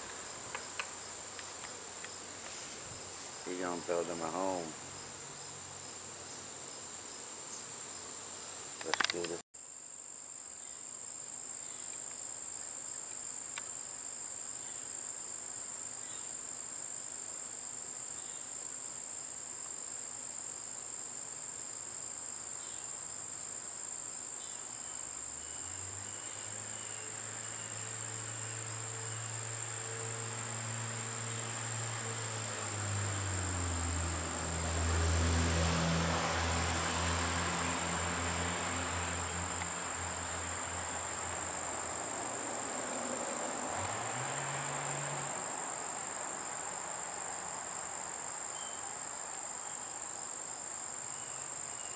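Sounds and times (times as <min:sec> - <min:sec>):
insects chorus: 0:00.0 - 0:51.9.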